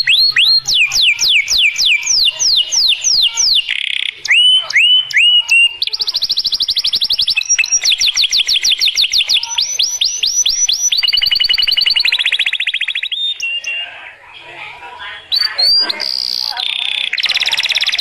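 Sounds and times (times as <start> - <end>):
canary singing rapid trills: 0.0 - 14.2, 15.0 - 18.0.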